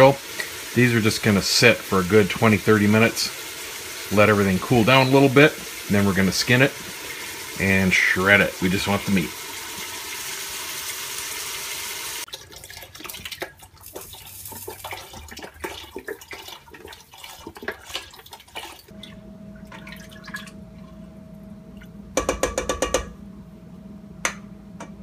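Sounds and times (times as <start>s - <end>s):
broth pouring and splashing: 0.0s - 20.6s.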